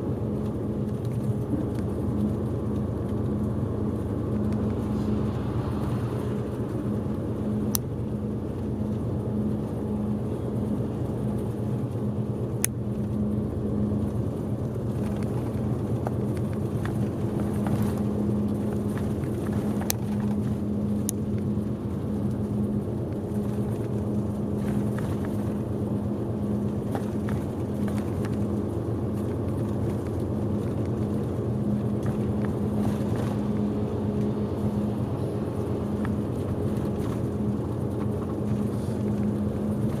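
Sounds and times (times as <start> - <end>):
bus engine drone: 0.0 - 40.0
road noise: 0.0 - 40.0.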